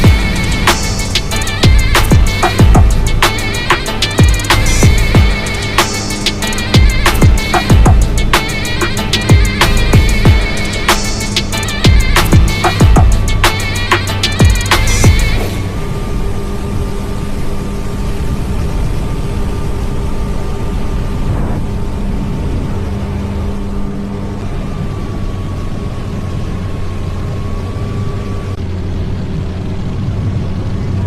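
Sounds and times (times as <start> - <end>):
boat engine running steadily: 0.0 - 31.0.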